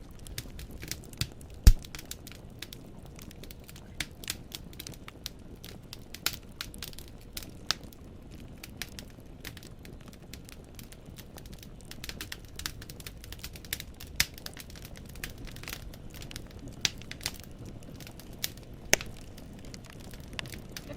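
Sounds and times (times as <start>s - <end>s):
fire low rumble: 0.0s - 20.9s
firewood crackling and popping: 0.0s - 20.9s.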